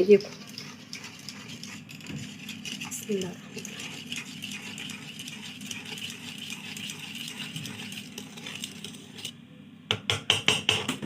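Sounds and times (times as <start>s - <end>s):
kitchen background: 0.0s - 11.0s.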